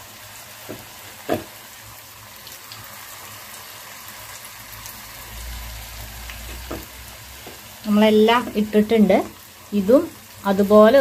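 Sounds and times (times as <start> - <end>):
batter sizzling in hot oil: 0.0 - 11.0.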